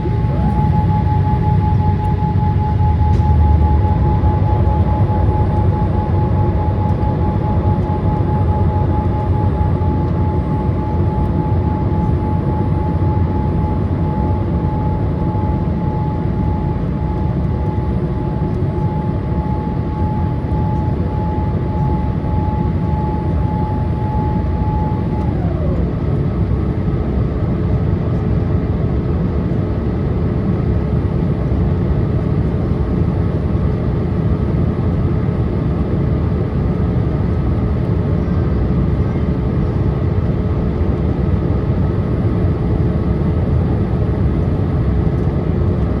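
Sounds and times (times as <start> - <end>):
aircraft cabin rumble and hiss: 0.0 - 46.0
steady whine: 0.0 - 46.0.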